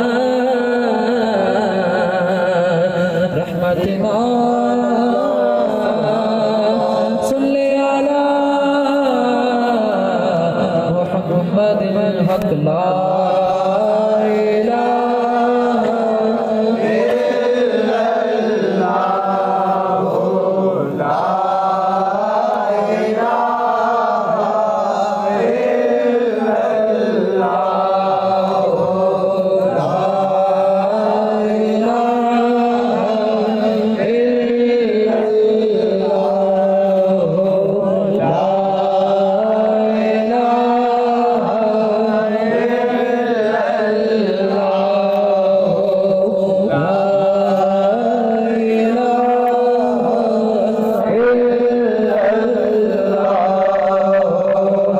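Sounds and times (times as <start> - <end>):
layered voices chanting: 0.0 - 54.9.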